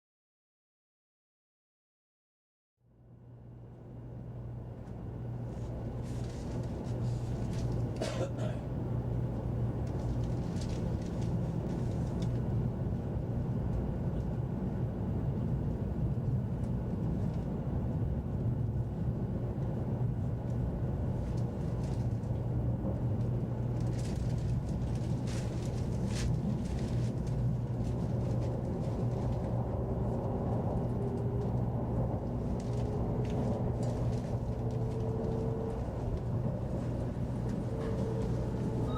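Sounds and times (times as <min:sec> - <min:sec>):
train rumble inside passenger car: 0:03.1 - 0:38.9.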